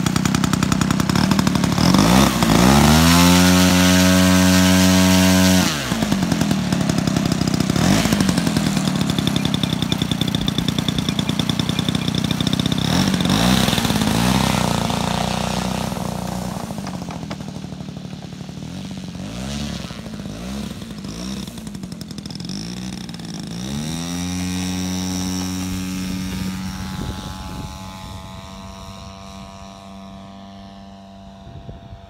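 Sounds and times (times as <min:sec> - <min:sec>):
model plane propeller engine: 0:00.0 - 0:32.0.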